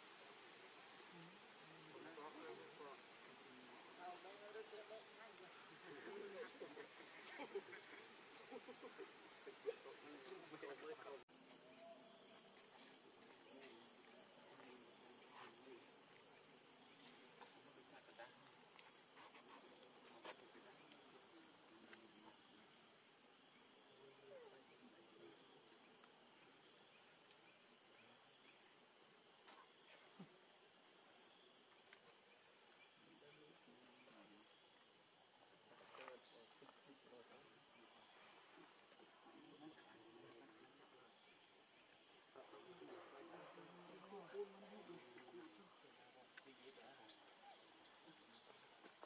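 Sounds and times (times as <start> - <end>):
high-pitched insect chorus: 1.8 - 49.0.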